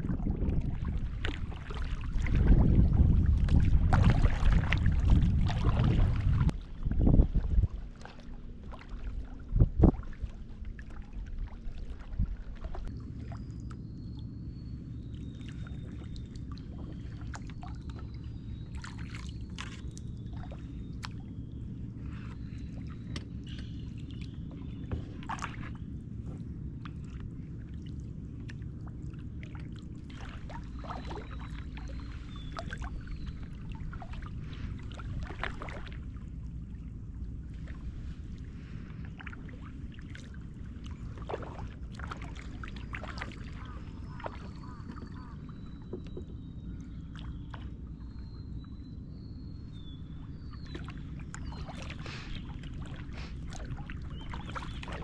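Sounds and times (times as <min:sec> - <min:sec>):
paddle splashes and drips: 0:00.0 - 0:13.9, 0:15.1 - 0:48.9, 0:49.7 - 0:55.0
steady low rumble: 0:00.0 - 0:55.0.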